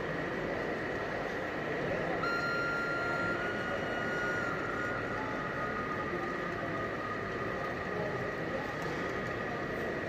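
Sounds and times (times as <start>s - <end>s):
background hubbub: 0.0s - 10.0s
model train whine: 0.0s - 10.0s.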